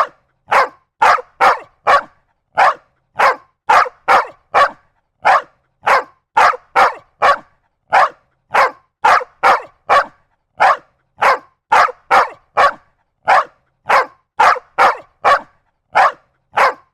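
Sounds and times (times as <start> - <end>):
dog barking: 0.0 - 16.9.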